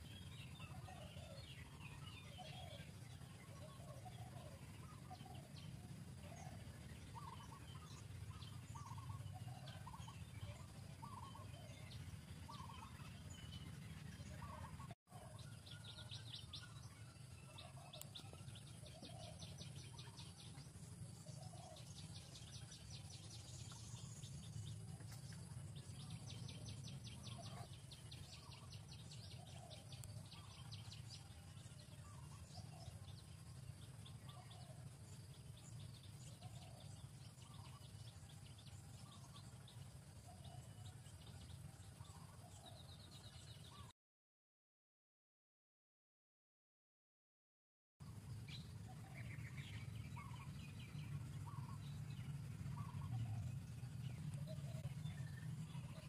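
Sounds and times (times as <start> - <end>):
steady low rumble: 0.0 - 43.9, 48.0 - 56.0.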